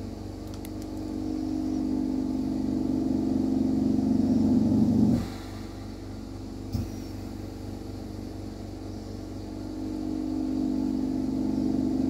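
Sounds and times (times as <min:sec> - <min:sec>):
workshop equipment humming: 0:00.0 - 0:12.0.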